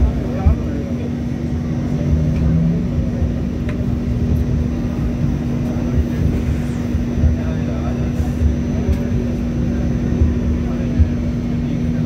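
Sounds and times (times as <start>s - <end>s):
light rail car interior rumble: 0.0s - 12.0s.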